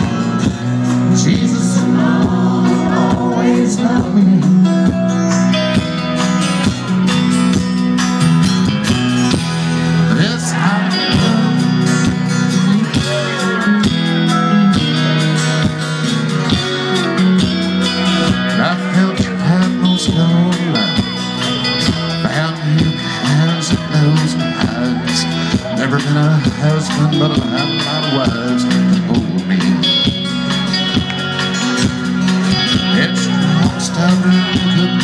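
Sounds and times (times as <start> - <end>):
bass guitar: 0.0 - 35.0
drums: 0.0 - 35.0
electric and acoustic guitars: 0.0 - 35.0.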